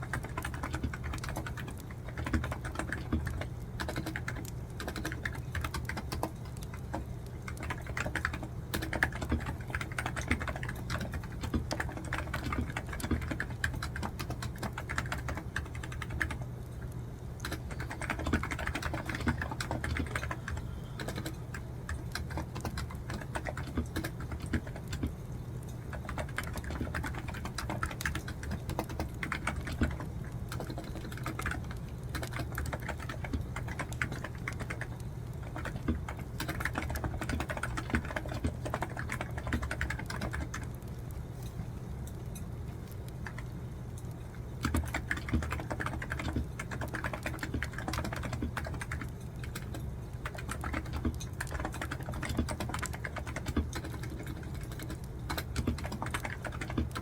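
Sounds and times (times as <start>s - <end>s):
computer keyboard typing: 0.0s - 25.2s, 25.8s - 40.9s, 42.9s - 43.5s, 44.4s - 57.0s
steady low hum: 0.0s - 57.0s.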